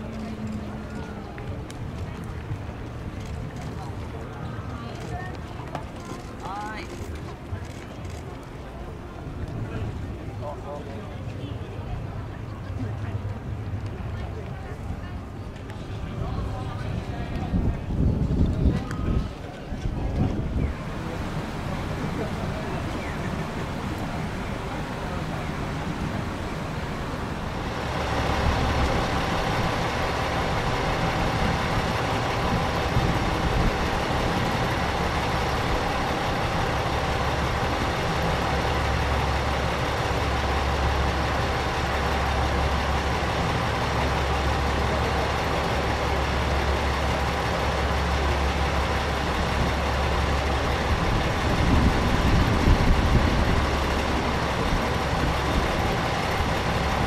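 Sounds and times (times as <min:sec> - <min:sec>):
diesel train engine droning: 0:00.0 - 0:57.0.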